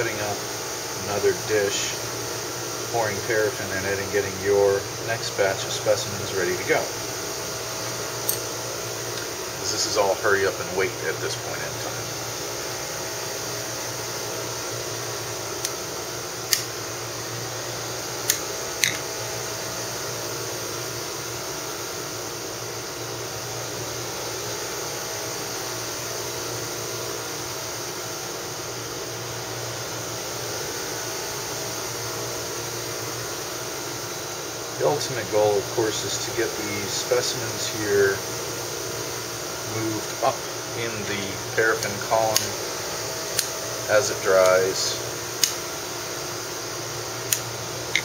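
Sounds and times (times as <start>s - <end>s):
fan whirring: 0.0s - 48.0s.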